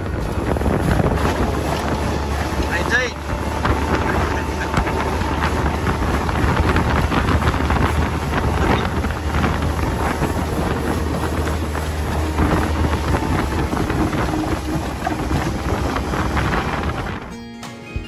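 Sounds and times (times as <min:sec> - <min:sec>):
outboard motor humming: 0:00.0 - 0:17.3
water slapping against hull: 0:00.0 - 0:17.3
wind noise on microphone: 0:00.0 - 0:18.0.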